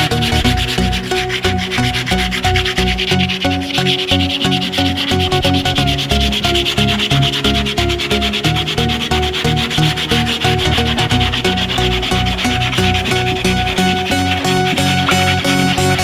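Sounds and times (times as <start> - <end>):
background music with bass line: 0.0 - 16.0
sandpaper rubbing on wood: 0.0 - 16.0.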